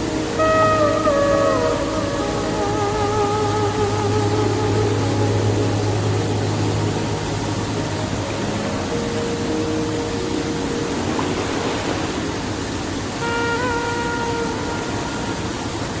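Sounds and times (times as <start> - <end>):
sea waves washing: 0.0 - 16.0
soft background music: 0.0 - 16.0.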